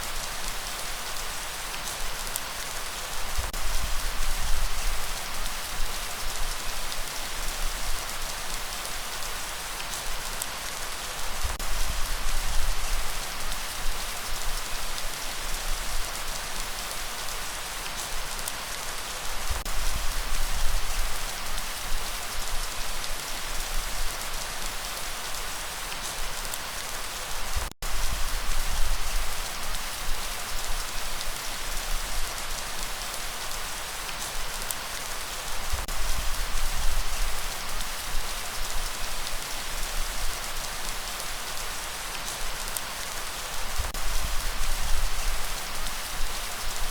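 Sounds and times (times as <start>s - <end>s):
heavy rainfall hissing: 0.0s - 46.9s.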